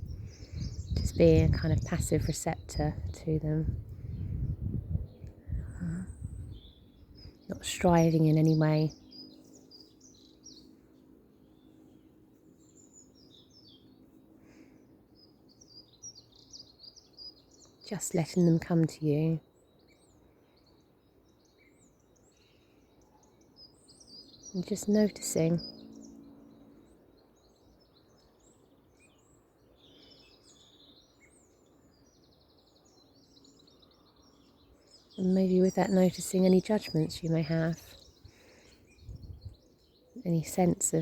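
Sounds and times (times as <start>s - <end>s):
faint birdsong: 0.0s - 41.0s
low steady background noise: 0.0s - 41.0s.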